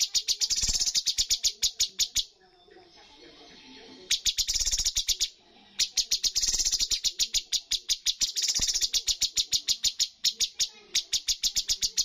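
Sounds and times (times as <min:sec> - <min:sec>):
bird singing sharp high notes: 0:00.0 - 0:02.4, 0:04.1 - 0:12.0.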